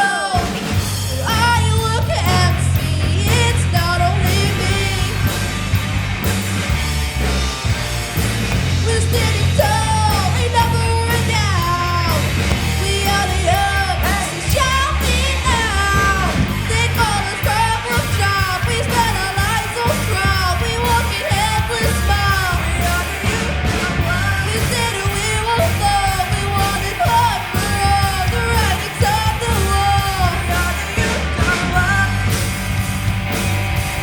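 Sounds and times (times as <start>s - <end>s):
lead vocalist singing loudly: 0.0s - 5.4s, 8.6s - 32.5s
rock band playing: 0.0s - 34.0s.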